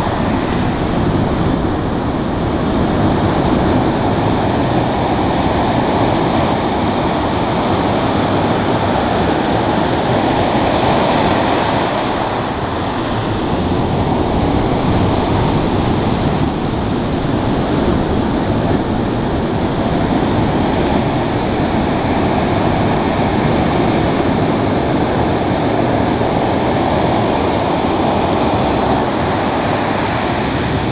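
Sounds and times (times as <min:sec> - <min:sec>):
ocean surf breaking: 0:00.0 - 0:30.9.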